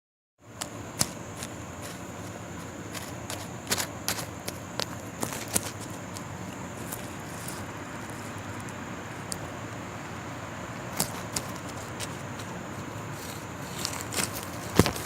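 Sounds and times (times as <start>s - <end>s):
grass rustling and crackling: 0.5s - 15.0s.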